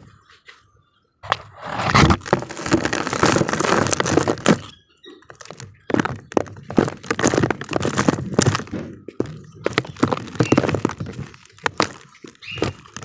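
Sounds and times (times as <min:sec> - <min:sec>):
cement crunching and cracking: 0:01.2 - 0:13.0.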